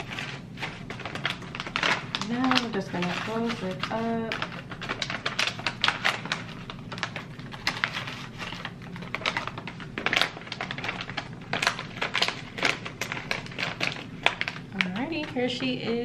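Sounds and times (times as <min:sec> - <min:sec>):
paper shred rustling: 0:00.0 - 0:15.8
foil and plastic bag crinkling: 0:00.0 - 0:16.0.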